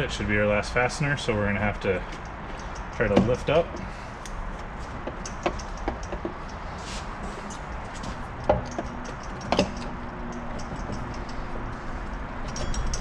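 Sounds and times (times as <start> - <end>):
steady background noise: 0.0 - 13.0
clicks and knocks of metal parts: 2.0 - 13.0.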